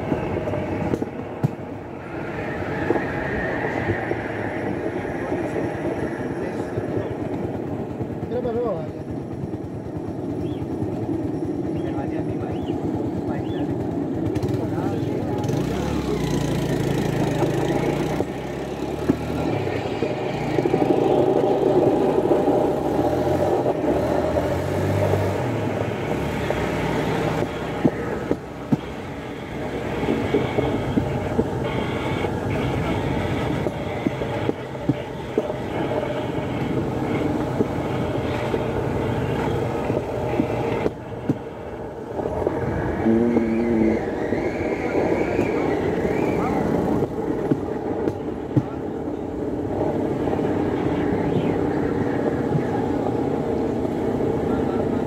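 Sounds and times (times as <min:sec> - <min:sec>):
rail car engine running: 0:00.0 - 0:55.0.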